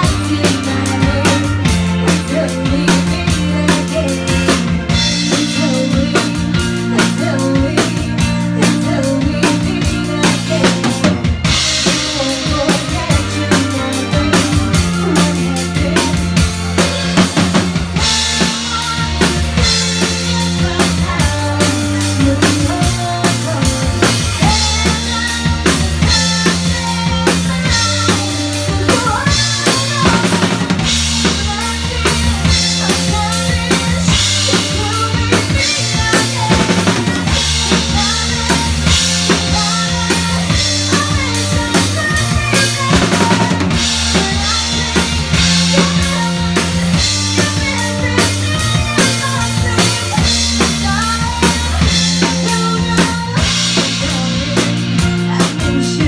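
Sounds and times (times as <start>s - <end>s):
bass line: 0.0s - 56.0s
drum kit beat: 0.0s - 56.0s
electric guitar: 0.0s - 56.0s.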